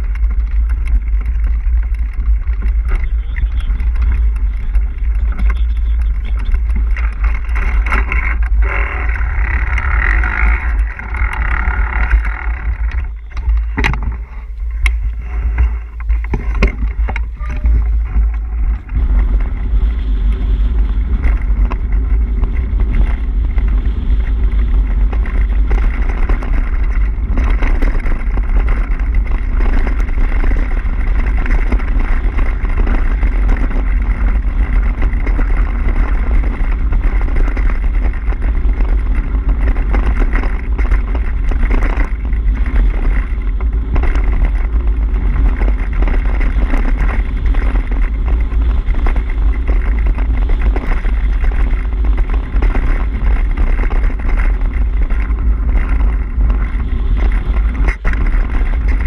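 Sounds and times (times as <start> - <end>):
bike knocks and rattles: 0.0 - 59.0
bike tyre noise on gravel: 0.0 - 59.0
wind on microphone: 0.0 - 59.0.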